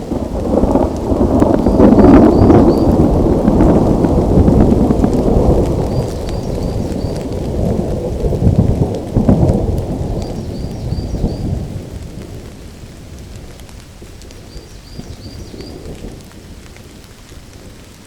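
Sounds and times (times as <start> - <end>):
rolling thunder: 0.0 - 18.0
steady rain: 0.0 - 18.0.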